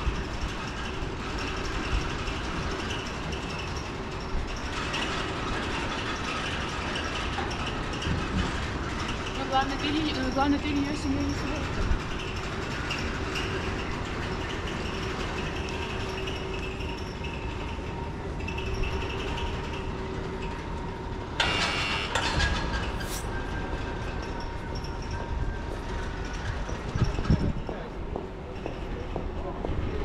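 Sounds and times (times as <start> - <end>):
street noise: 0.0 - 30.0
tram motors whining: 0.0 - 30.0.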